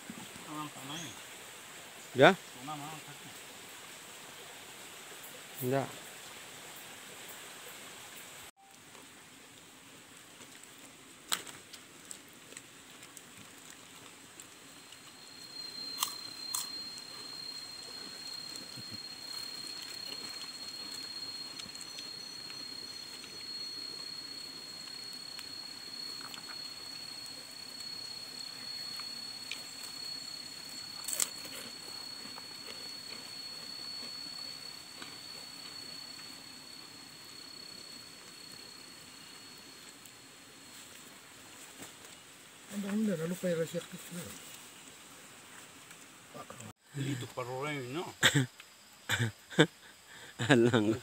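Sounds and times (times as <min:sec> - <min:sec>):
insect high-pitched call: 0:00.0 - 0:08.8, 0:11.4 - 0:51.0.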